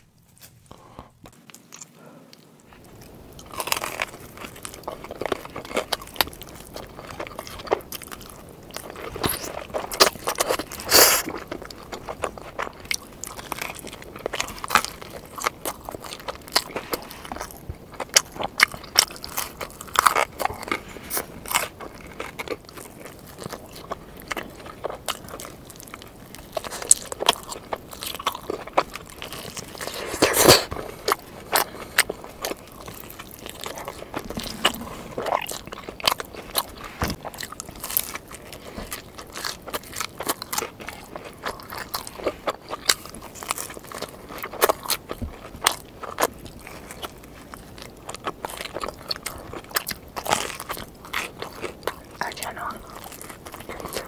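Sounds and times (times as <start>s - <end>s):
crunchy bites into pizza crust: 0.0s - 54.0s
wet crackly chewing: 0.0s - 54.0s.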